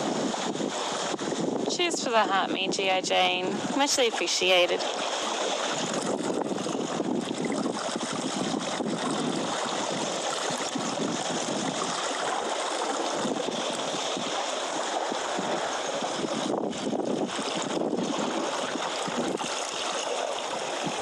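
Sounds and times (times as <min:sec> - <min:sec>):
sea water washing against rocks: 0:00.0 - 0:21.0.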